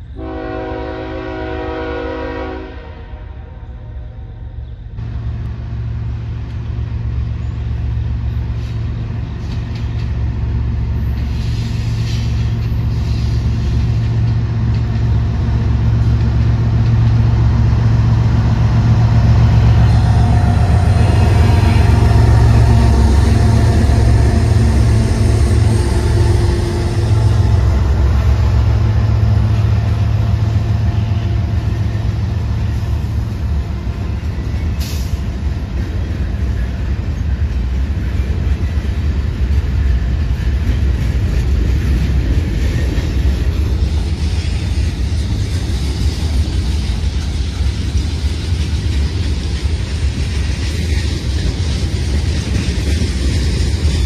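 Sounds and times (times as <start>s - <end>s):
diesel locomotive rumble: 0.0s - 54.0s
freight train rolling past: 0.0s - 54.0s.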